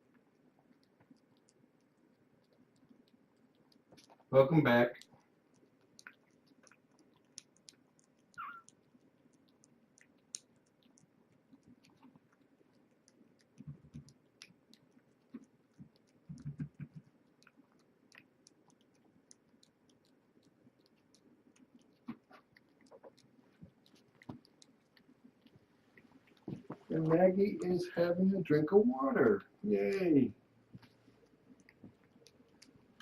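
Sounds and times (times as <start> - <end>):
kittens chewing wet food: 0.0 - 27.7, 29.2 - 33.0.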